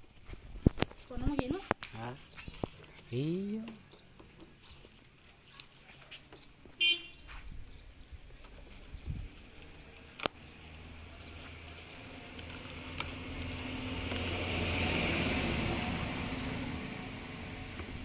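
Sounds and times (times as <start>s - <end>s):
vehicle engine hum and road noise: 0.1s - 18.0s.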